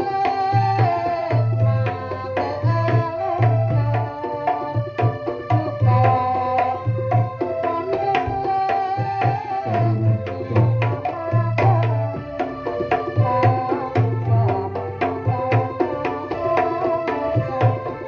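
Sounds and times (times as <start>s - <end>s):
hand drums playing fast strokes: 0.0s - 18.0s
held sliding melody: 0.0s - 18.0s.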